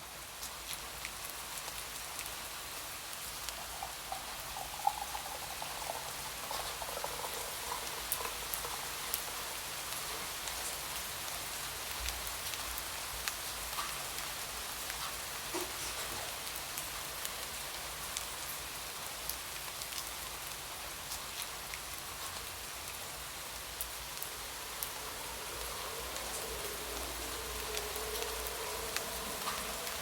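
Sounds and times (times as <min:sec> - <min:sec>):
raindrops ticking on a surface: 0:00.0 - 0:30.0
steady rain: 0:00.0 - 0:30.0.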